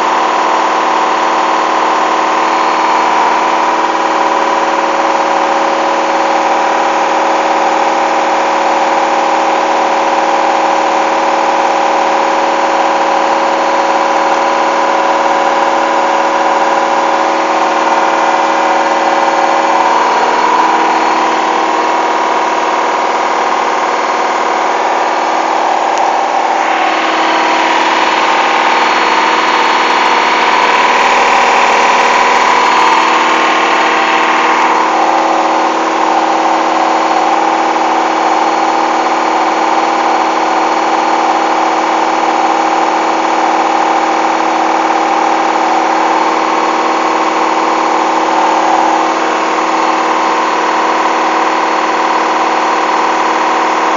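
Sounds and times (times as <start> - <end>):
washing machine motor whine: 0.0 - 53.9.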